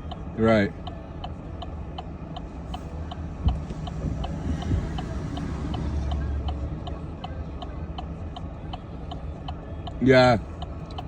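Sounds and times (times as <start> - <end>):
car driving rumble: 0.0 - 11.0
turn signal ticking: 0.0 - 11.0.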